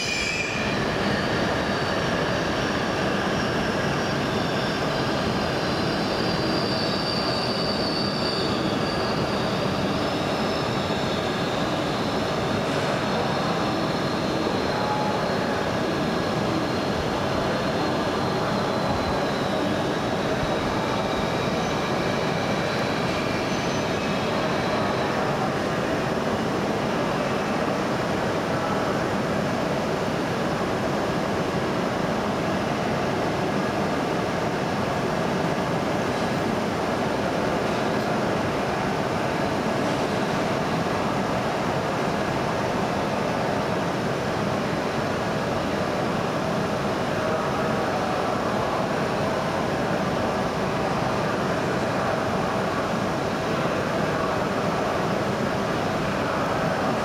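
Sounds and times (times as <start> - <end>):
standing train hum: 0.0 - 57.0.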